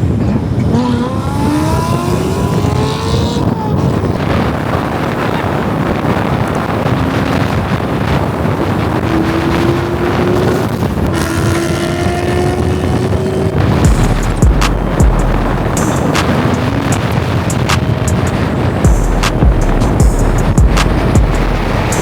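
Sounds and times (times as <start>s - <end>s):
car engine accelerating: 0.0s - 22.0s
road and exhaust noise: 0.0s - 22.0s.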